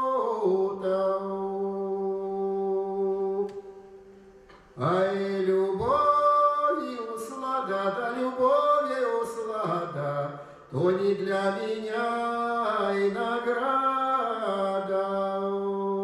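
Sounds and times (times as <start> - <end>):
man singing unaccompanied: 0.0 - 3.9, 4.8 - 16.0.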